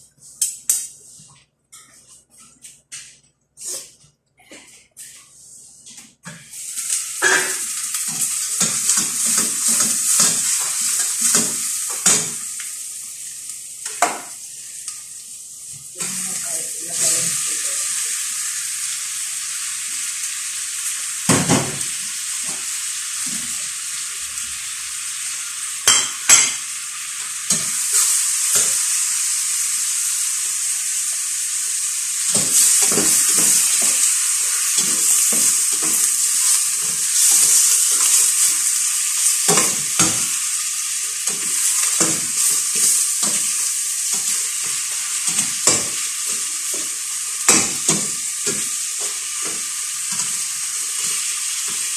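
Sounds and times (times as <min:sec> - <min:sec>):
food sizzling in a pan: 0:05.0 - 0:51.9.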